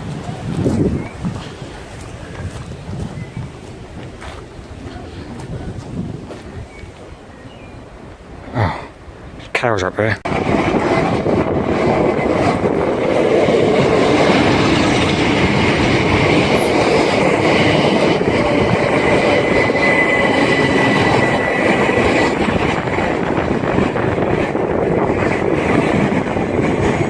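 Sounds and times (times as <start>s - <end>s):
train wheels rumbling on track: 0.0s - 9.4s, 10.1s - 27.0s.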